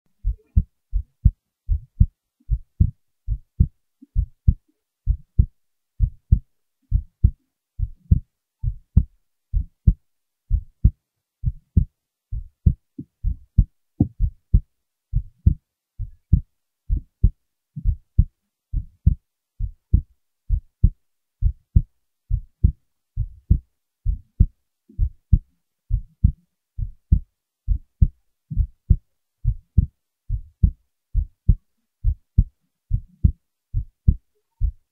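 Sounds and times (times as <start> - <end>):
heartbeat thumps: 0.1 - 34.9.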